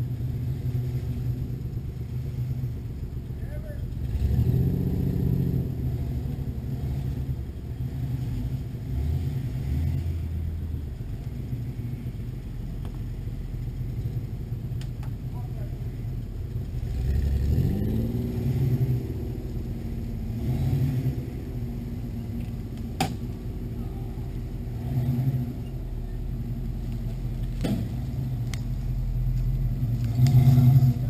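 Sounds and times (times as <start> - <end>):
pickup truck engine revving: 0.0 - 31.0.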